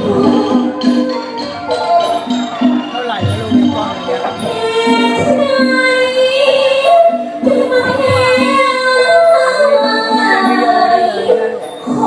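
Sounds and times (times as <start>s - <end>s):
musical accompaniment: 0.0s - 12.0s.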